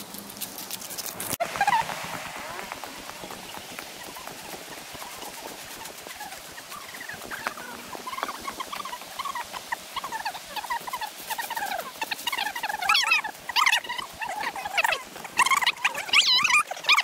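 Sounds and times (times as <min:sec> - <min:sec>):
footsteps in dry leaves: 0:00.0 - 0:17.0
birds chirping and twittering: 0:01.4 - 0:17.0.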